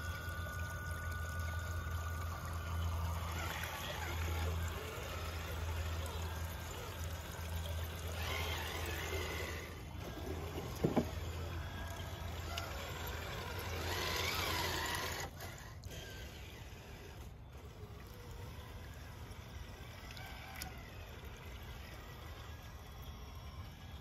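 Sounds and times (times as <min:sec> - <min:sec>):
electric motor whining: 0:00.0 - 0:24.0
stream trickling: 0:00.0 - 0:24.0.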